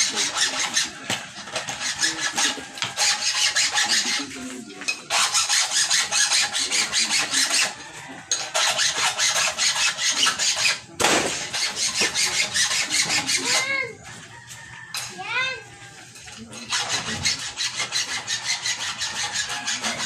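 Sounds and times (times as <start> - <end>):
file rasping on chainsaw teeth: 0.0 - 13.8, 16.4 - 20.0.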